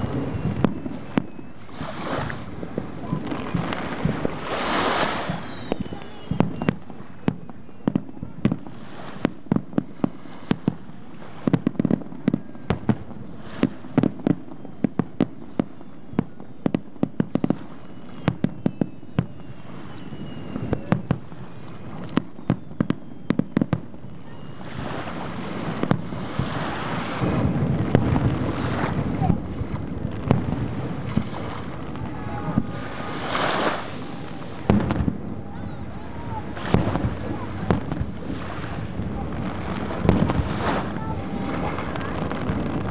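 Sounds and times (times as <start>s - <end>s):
distant fireworks bangs and crackles: 0.0s - 42.9s.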